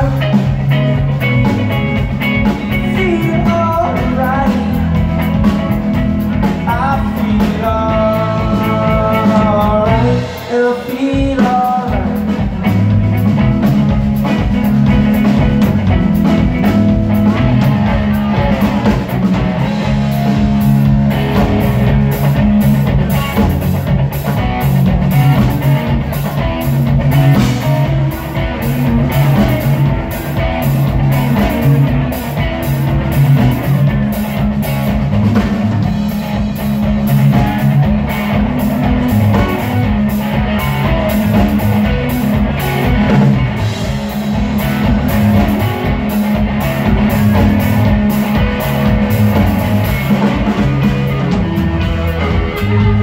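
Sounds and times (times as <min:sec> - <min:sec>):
electric guitars: 0:00.0 - 0:53.0
steady drum beat: 0:00.0 - 0:53.0.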